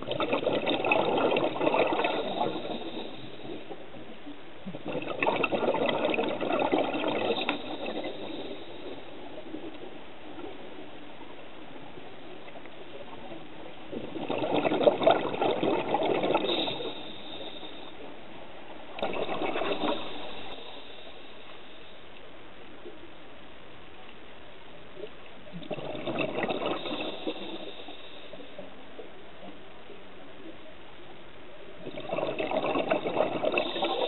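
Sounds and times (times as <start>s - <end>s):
underwater regulator bubbling: 0.0s - 11.0s, 11.8s - 23.1s, 25.0s - 29.6s, 31.7s - 34.0s.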